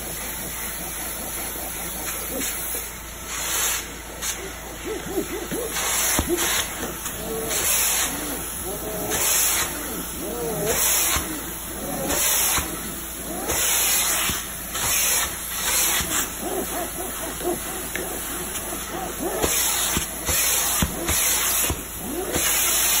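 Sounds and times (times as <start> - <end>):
hiss of spray and suction: 1.4 - 23.0.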